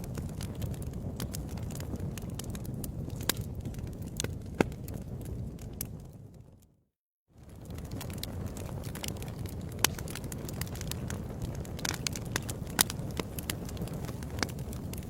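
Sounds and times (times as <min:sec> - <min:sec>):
wood fire crackling and popping: 0:00.0 - 0:06.7, 0:07.4 - 0:15.0
low rumble of flames: 0:00.0 - 0:15.0.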